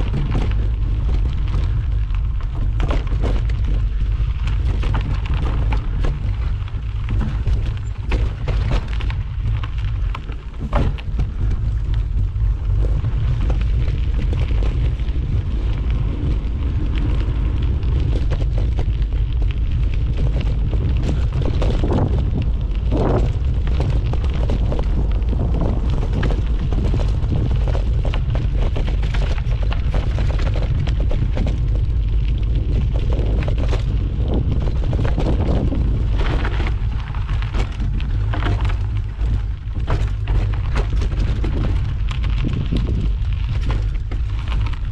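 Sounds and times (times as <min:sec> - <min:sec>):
bike rattling over stones: 0:00.0 - 0:44.9
wind buffeting microphone: 0:00.0 - 0:44.9.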